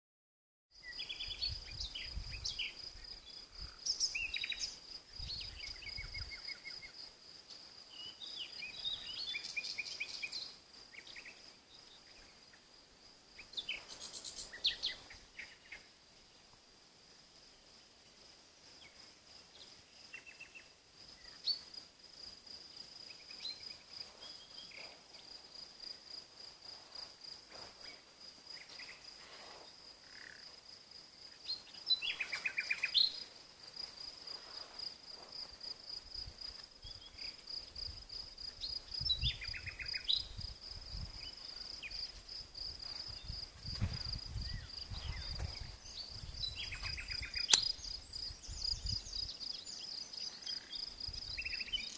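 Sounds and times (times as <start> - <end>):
crickets chirping: 0.8 - 51.9.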